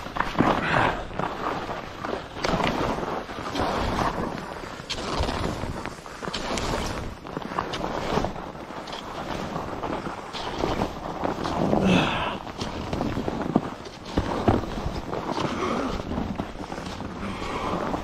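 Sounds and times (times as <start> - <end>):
skis scraping over snow: 0.0 - 18.0.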